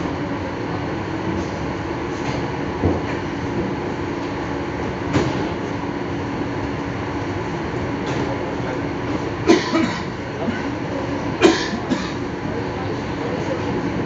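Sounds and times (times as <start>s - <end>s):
electric train running hum: 0.0s - 14.0s.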